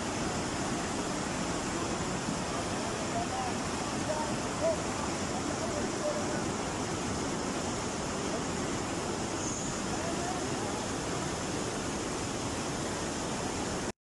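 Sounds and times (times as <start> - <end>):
flood water rushing: 0.0 - 13.9.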